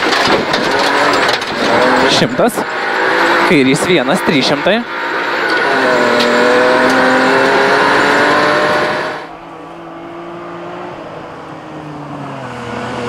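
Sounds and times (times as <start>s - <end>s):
rally car engine running: 0.0s - 13.0s.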